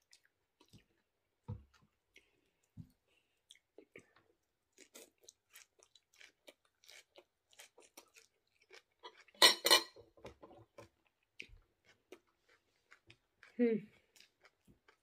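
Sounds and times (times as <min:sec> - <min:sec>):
person chewing with mouth smacks: 0:00.0 - 0:01.1, 0:01.7 - 0:09.4, 0:10.6 - 0:15.0.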